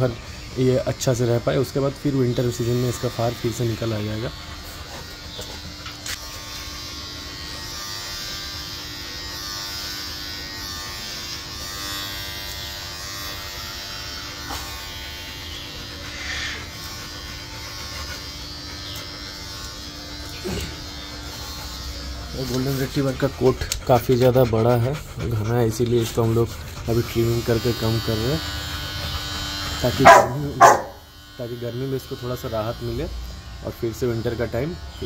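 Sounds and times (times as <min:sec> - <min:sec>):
electric hair trimmer buzzing: 0:00.0 - 0:24.1, 0:25.8 - 0:35.0.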